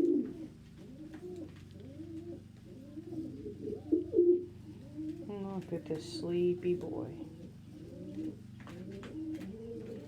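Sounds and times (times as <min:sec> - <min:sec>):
pigeons cooing: 0:00.0 - 0:05.3, 0:07.2 - 0:10.0.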